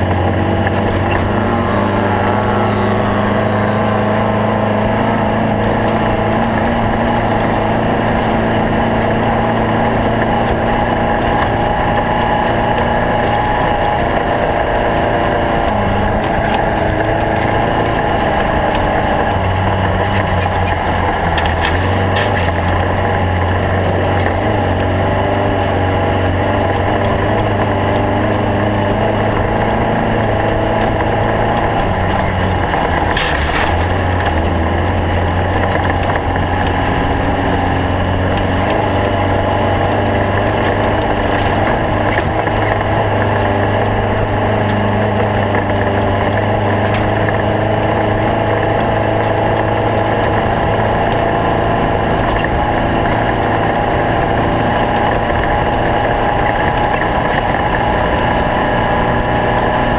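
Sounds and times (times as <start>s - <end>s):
race car engine running: 0.0s - 59.9s.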